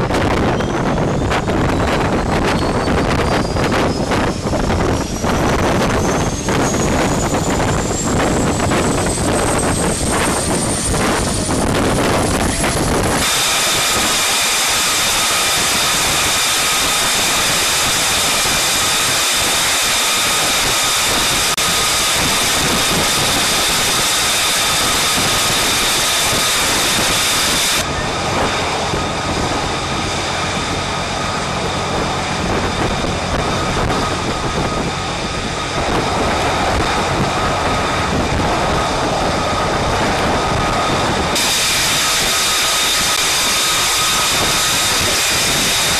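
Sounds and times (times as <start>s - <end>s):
jet engine running with whine: 0.0s - 45.9s.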